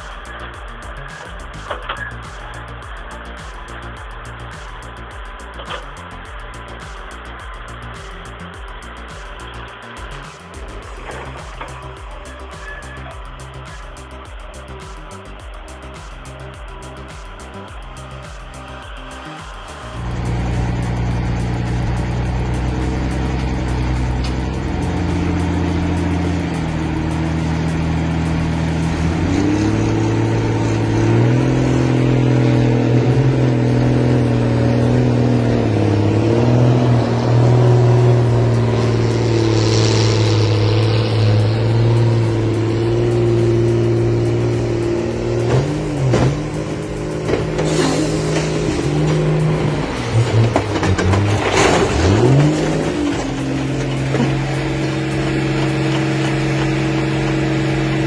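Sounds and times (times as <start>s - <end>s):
heavy machine engine running: 0.0s - 58.0s.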